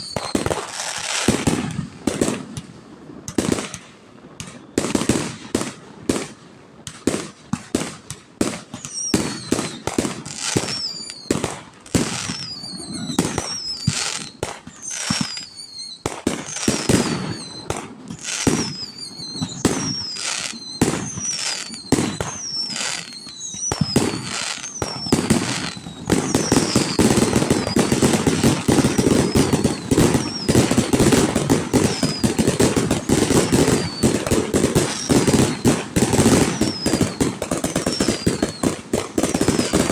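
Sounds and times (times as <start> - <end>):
falling firework whistles: 0.0 - 3.8, 8.6 - 39.9
fireworks bangs: 0.0 - 39.9
fireworks crackling barrage: 0.0 - 39.9.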